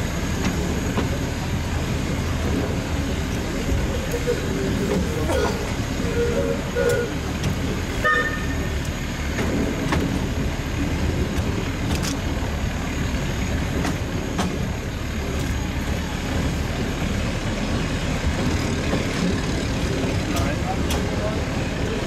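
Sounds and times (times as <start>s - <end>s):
train running: 0.0s - 22.0s.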